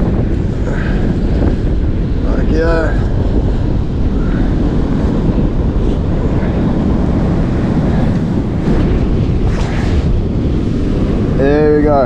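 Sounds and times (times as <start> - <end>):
breaking surf: 0.0 - 12.0
wind buffeting microphone: 0.0 - 12.0.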